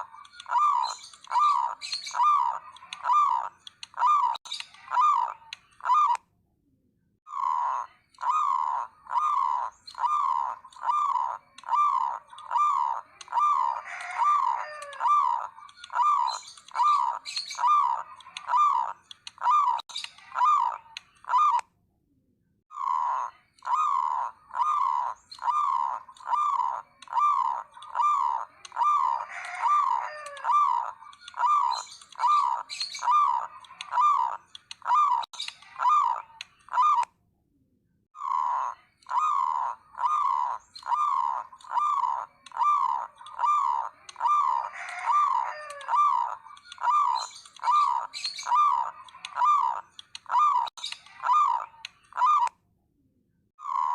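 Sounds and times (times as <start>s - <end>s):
zebra dove cooing: 0.0s - 6.2s, 7.3s - 21.6s, 22.7s - 37.1s, 38.2s - 52.5s, 53.6s - 53.9s.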